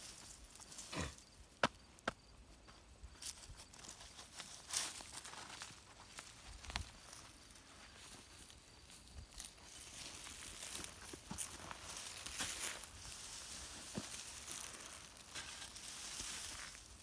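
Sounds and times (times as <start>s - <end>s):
dry plants rustling and crinkling: 0.0s - 17.0s.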